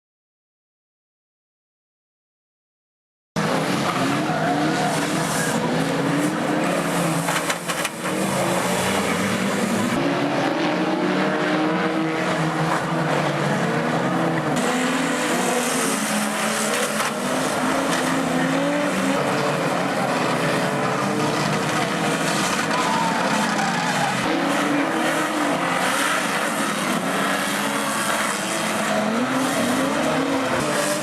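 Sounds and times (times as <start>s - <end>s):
vehicle engines revving: 3.4s - 31.0s.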